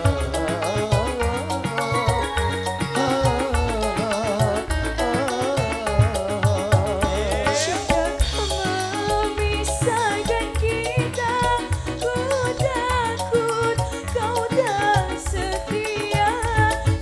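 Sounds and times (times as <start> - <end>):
electric guitars: 0.0 - 17.0
hand drums: 0.0 - 17.0
keyboard: 0.0 - 17.0
woman singing: 0.0 - 17.0.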